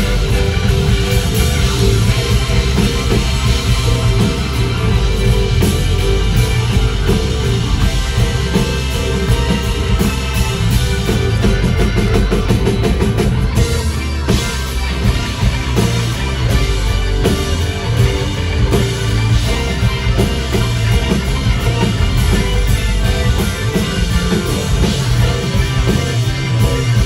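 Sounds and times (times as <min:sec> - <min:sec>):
drum kit: 0:00.0 - 0:27.0
electric guitars: 0:00.0 - 0:27.0
keyboard: 0:00.0 - 0:27.0.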